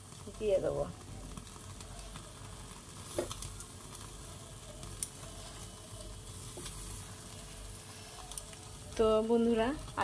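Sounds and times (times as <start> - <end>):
faint crackles: 0.0 - 10.0
meat skewers sizzling on grill: 0.0 - 10.0.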